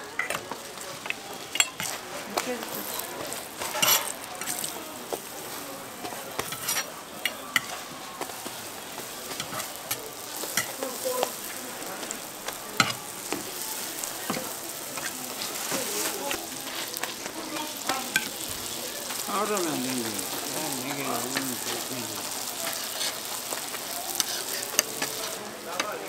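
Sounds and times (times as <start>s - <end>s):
cooking tools clicking: 0.0s - 26.0s
food sizzling on a griddle: 0.0s - 26.0s.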